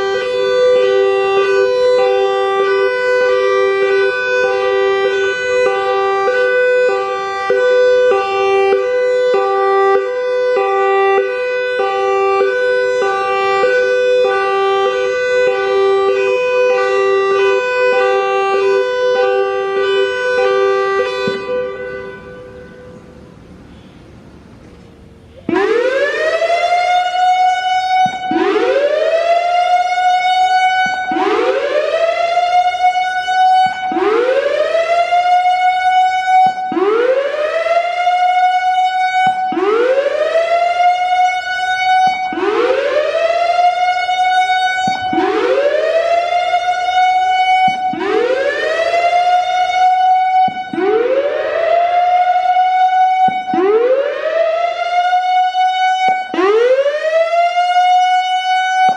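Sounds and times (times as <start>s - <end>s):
warning siren whooping: 0.0s - 23.9s, 25.3s - 58.9s.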